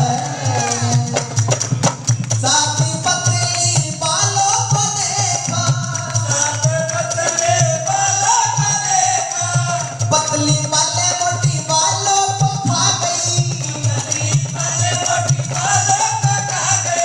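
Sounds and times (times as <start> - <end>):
rhythmic drum beat: 0.0 - 17.0.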